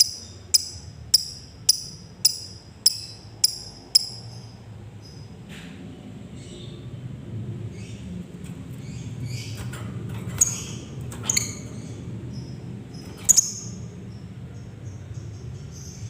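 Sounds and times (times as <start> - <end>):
lovebirds chirping and squeaking: 0.0 - 5.3, 7.8 - 16.0
low background hum: 0.0 - 16.0.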